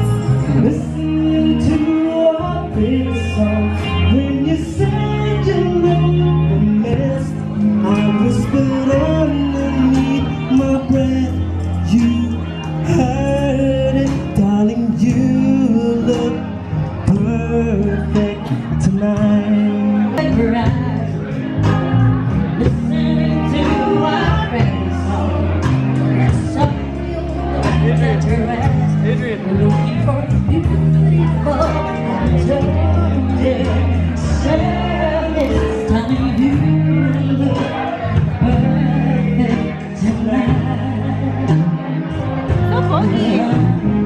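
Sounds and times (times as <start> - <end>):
band playing rock song: 0.0 - 44.0
person singing: 0.0 - 44.0.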